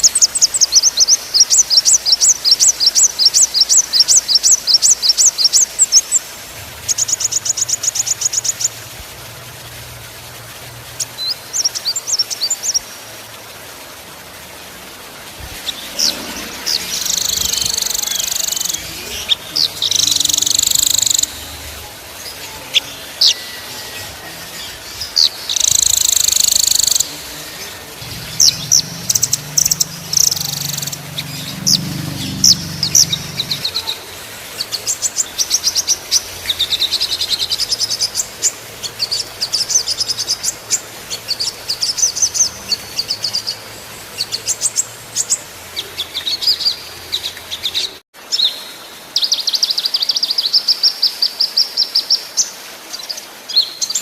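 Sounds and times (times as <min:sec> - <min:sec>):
songbirds trilling and chirping: 0:00.0 - 0:09.8, 0:14.8 - 0:54.0.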